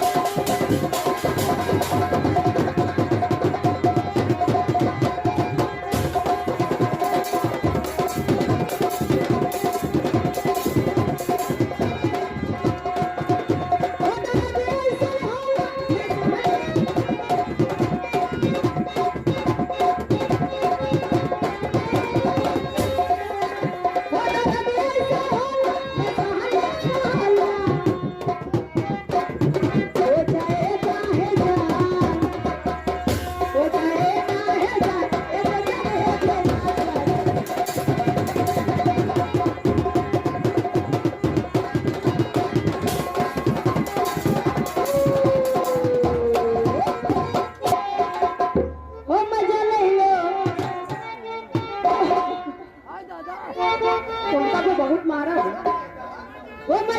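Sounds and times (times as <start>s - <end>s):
fast tabla hand drumming: 0.0s - 52.6s.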